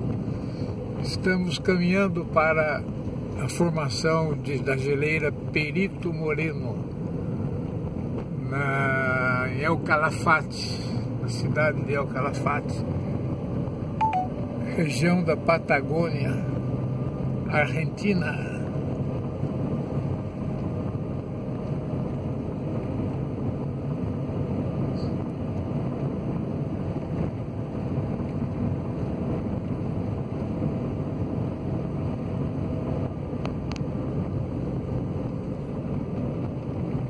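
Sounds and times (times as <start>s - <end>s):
car engine and tyre noise: 0.0s - 37.0s.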